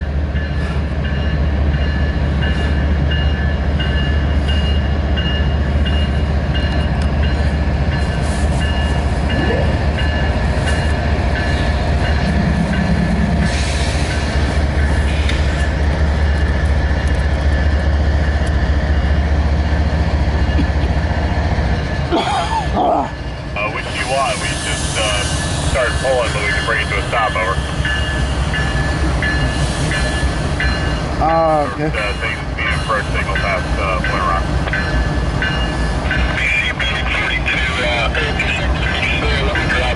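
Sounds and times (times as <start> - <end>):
freight train cars rumbling: 0.0 - 39.9.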